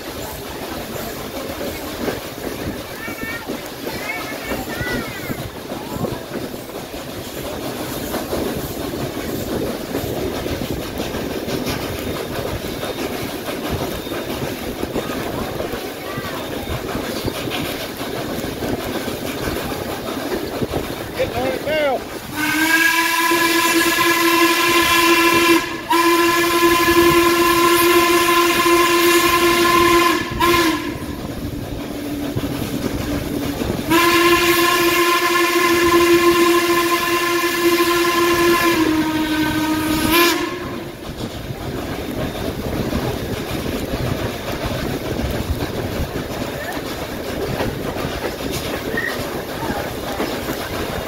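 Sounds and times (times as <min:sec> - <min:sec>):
train rolling: 0:00.0 - 0:51.0.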